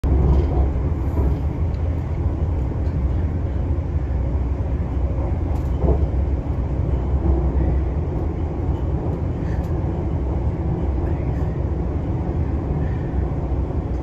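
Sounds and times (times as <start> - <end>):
train rumbling at speed: 0.0 - 14.0.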